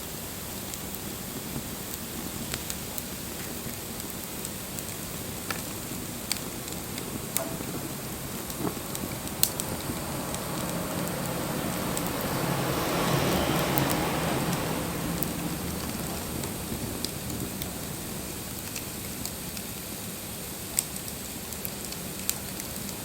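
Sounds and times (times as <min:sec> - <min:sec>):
wood bonfire crackling: 0:00.0 - 0:23.0
low rushing of flames: 0:00.1 - 0:23.0.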